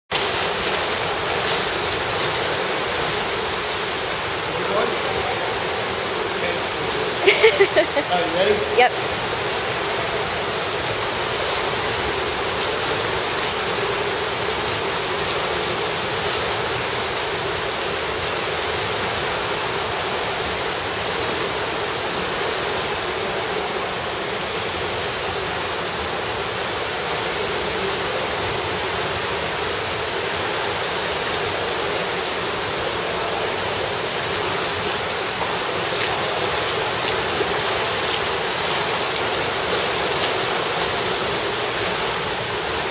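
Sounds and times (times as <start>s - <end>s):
pool water wash: 0.1s - 42.9s.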